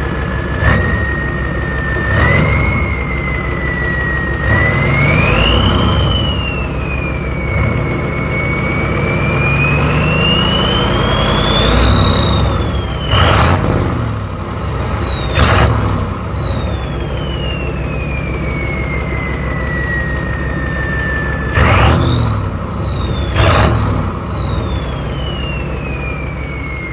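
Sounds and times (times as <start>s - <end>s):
diesel engine rumble: 0.0s - 26.9s
turbocharger whistling: 0.0s - 26.9s.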